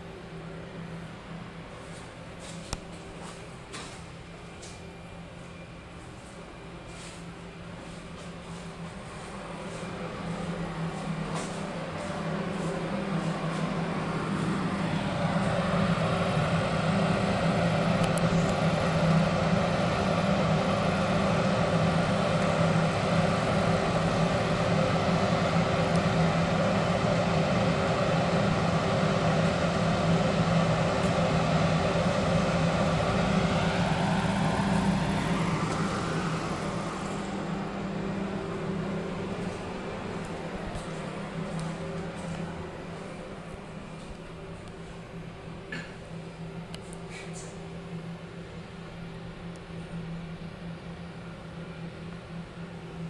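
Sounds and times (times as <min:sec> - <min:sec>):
mechanical engine drone: 0:00.0 - 0:53.0.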